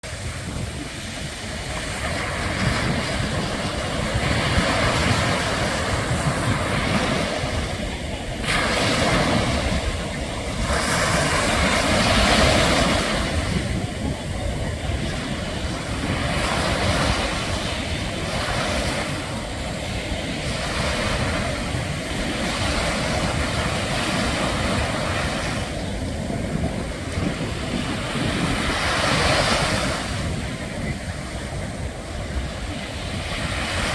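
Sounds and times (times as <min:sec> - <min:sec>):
ocean surf breaking: 0:00.0 - 0:33.9
wind rumbling on microphone: 0:00.0 - 0:33.9.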